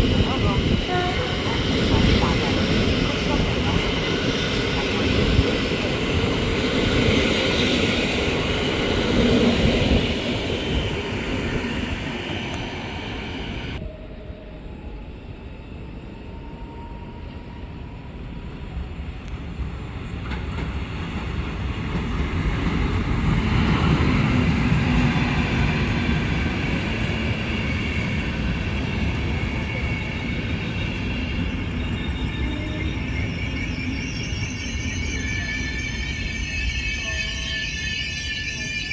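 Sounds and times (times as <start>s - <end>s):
train wheels rumbling on rails: 0.0s - 13.8s, 18.8s - 38.9s.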